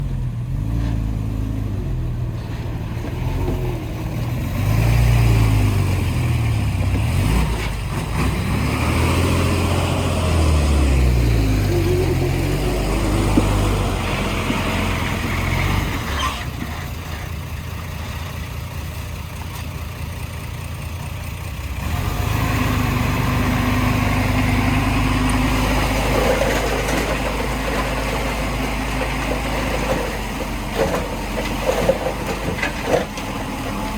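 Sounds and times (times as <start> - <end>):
heavy diesel engines revving: 0.0 - 33.9.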